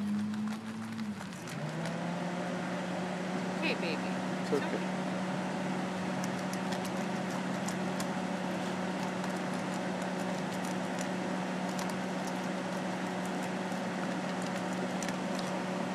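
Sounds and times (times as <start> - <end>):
dog crunching kibble: 0.0 - 2.8, 5.9 - 15.9
mechanical hum: 0.0 - 15.9.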